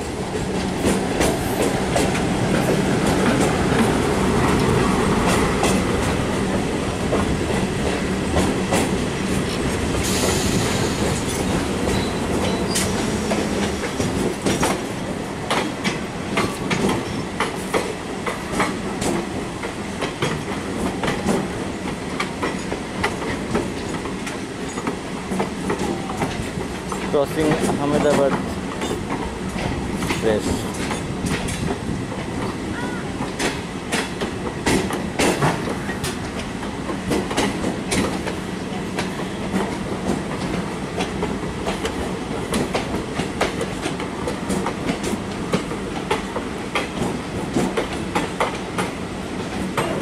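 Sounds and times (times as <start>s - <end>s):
train wheels clattering over rail joints: 0.1s - 32.6s, 33.2s - 50.0s.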